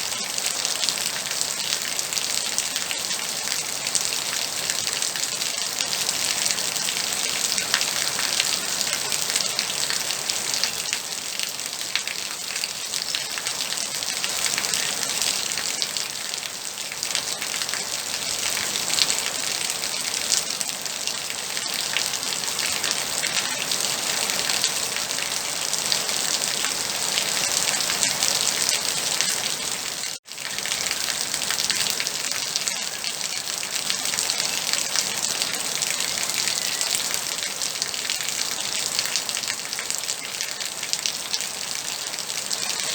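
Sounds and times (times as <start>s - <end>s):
steady rain patter: 0.0s - 42.9s.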